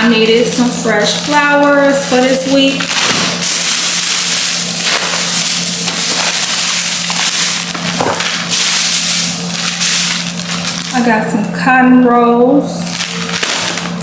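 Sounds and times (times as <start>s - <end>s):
plastic wrapping crinkling: 0.0s - 11.4s, 12.7s - 14.0s
steady low hum: 0.0s - 14.0s.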